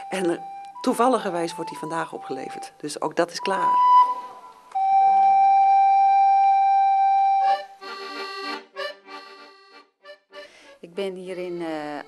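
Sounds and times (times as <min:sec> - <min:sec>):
piano accordion music: 0:00.0 - 0:02.8, 0:03.4 - 0:12.0.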